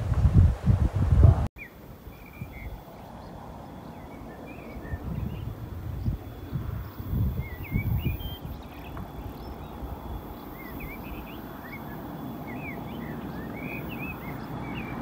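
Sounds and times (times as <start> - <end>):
small birds chirping: 1.6 - 15.0.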